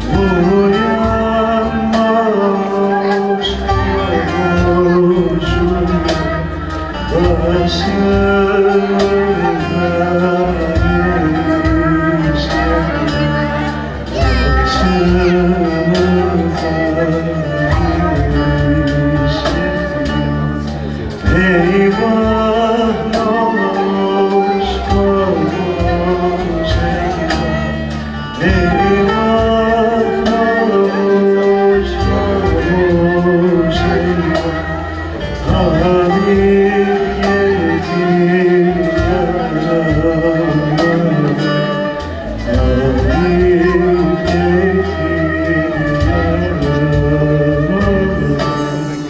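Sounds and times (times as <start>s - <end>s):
bowed fiddle: 0.0s - 49.0s
electric bass: 0.0s - 49.0s
end-blown flute: 0.0s - 49.0s
man singing: 0.0s - 49.0s.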